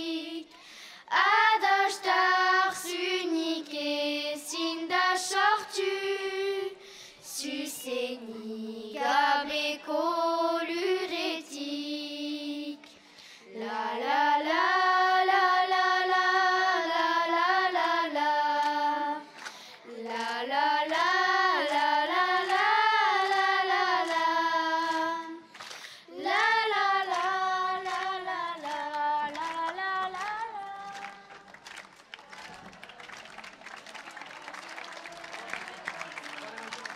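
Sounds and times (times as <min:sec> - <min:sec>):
girls singing in unison: 0:00.0 - 0:31.5.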